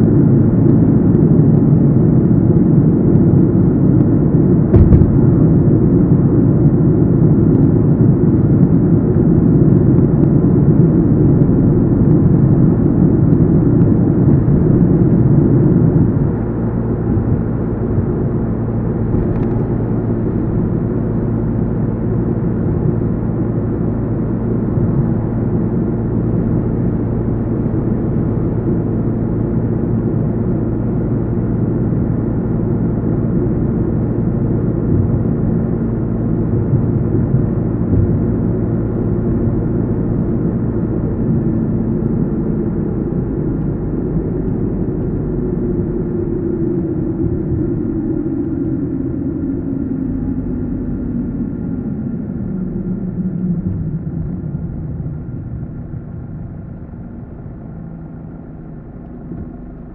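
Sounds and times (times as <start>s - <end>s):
car tyres and engine rumble: 0.0s - 59.9s
faint steady hum: 0.0s - 59.9s.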